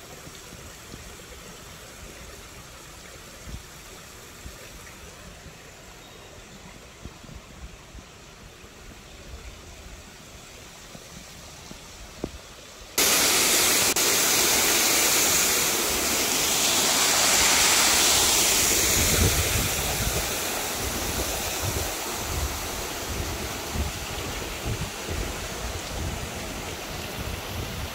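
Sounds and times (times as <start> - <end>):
rushing falling water: 0.0 - 27.9.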